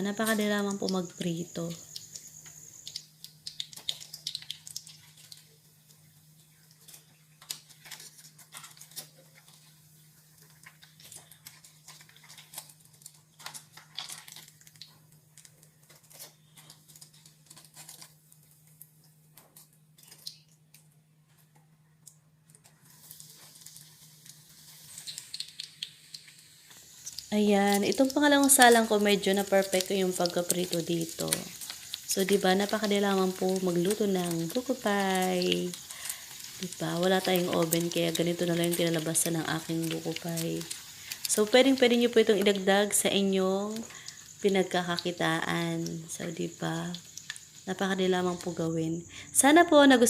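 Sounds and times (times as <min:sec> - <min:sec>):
food frying in hot oil: 0:00.0 - 0:20.5, 0:22.6 - 0:50.0.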